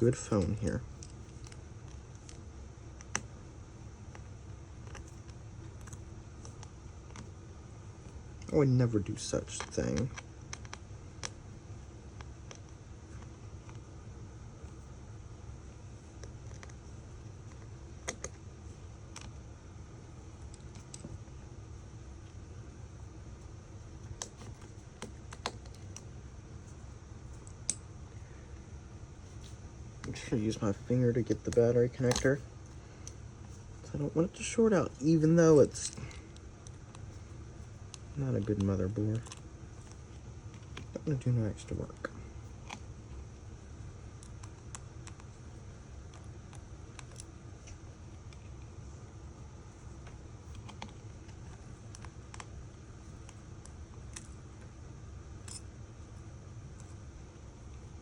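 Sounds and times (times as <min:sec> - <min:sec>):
faint room hum: 0:00.0 - 0:58.0.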